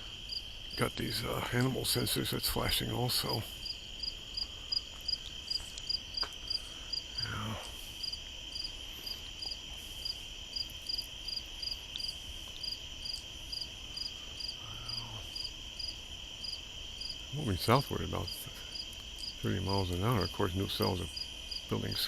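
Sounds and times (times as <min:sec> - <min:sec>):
insect chirping: 0:00.0 - 0:22.0
insect high trill: 0:00.0 - 0:22.0.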